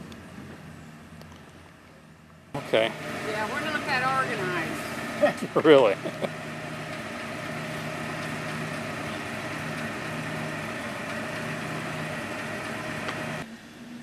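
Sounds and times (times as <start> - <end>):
engine idling: 0.0 - 13.5.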